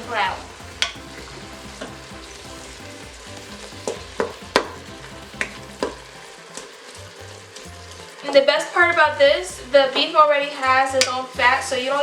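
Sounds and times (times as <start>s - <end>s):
ground beef sizzling: 0.0s - 12.0s.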